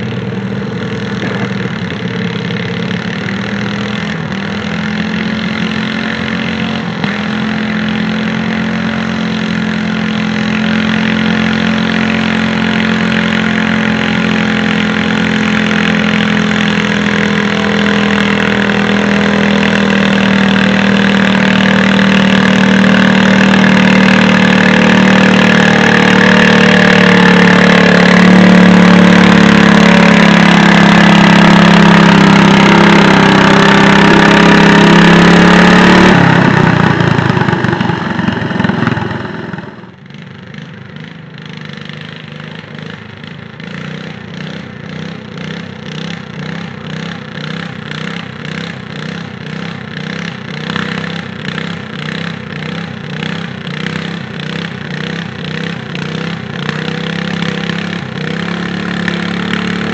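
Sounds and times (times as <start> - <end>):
tractor engine running hard: 0.0 - 59.9.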